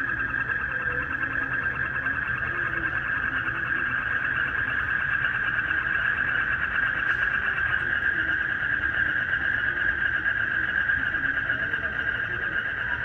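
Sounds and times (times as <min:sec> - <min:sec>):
crickets chirring: 0:00.0 - 0:13.0
frogs croaking: 0:00.0 - 0:13.0.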